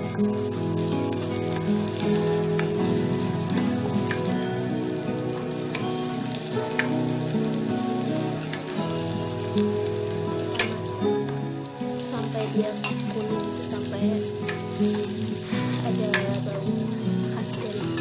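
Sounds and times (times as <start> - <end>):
background music: 0.0 - 18.0
shallots and garlic sizzling in oil: 0.0 - 18.0.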